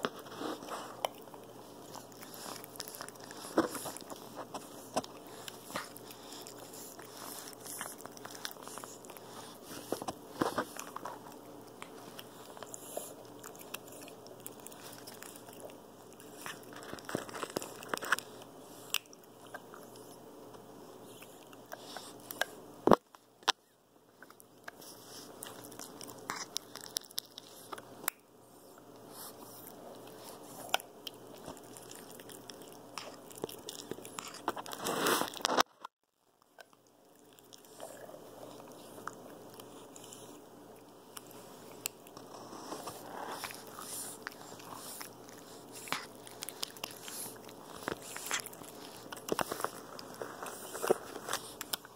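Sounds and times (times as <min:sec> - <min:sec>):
monkey chewing on a toy: 0:00.0 - 0:35.7, 0:36.4 - 0:51.9.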